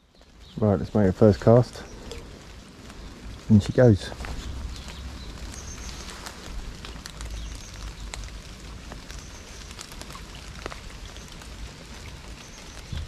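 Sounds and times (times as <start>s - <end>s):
low rain rumble: 0.0s - 13.0s
rain drops ticking: 0.0s - 13.0s.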